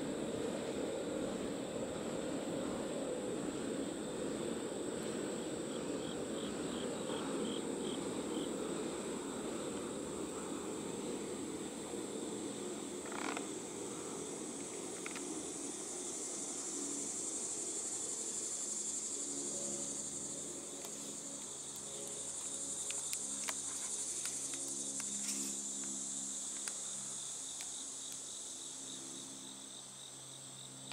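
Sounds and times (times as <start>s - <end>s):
insect chorus: 0.0s - 30.9s.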